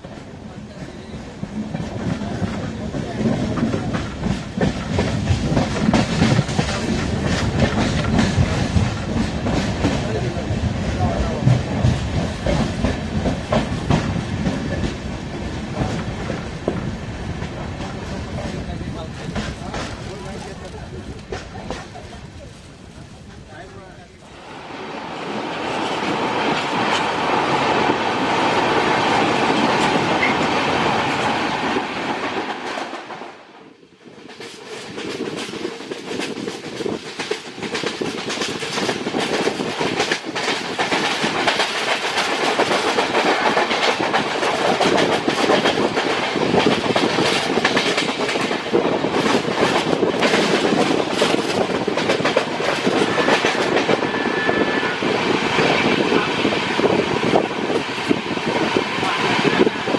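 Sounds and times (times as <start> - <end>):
train wheels clickety-clack: 0.0 - 23.8, 25.5 - 59.9.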